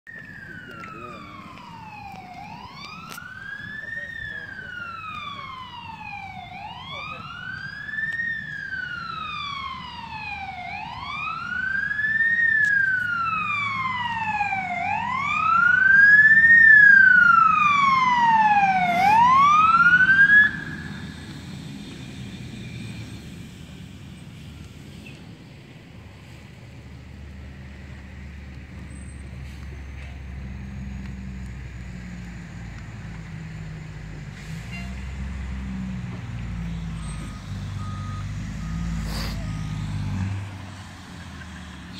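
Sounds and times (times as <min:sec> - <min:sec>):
emergency siren wailing: 0:00.1 - 0:24.5, 0:27.0 - 0:41.9.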